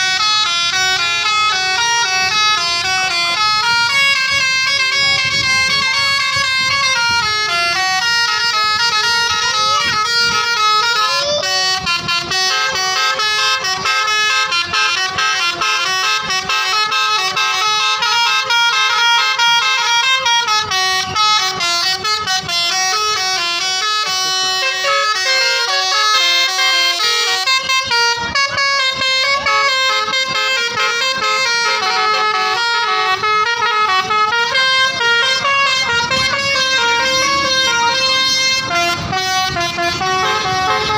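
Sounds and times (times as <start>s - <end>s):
musical bus horn melody: 0.0s - 40.9s.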